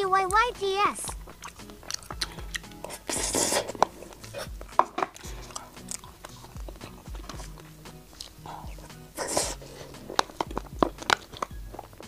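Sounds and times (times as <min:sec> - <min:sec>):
eating sounds: 0:00.1 - 0:12.0.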